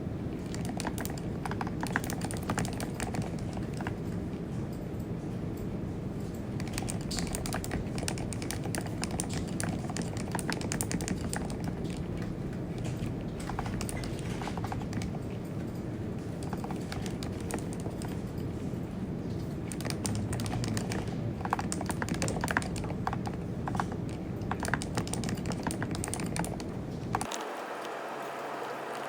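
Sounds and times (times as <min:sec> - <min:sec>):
steady low hum: 0:00.0 - 0:29.0
typing on computer keyboard: 0:00.4 - 0:04.8, 0:06.3 - 0:18.5, 0:19.3 - 0:27.4.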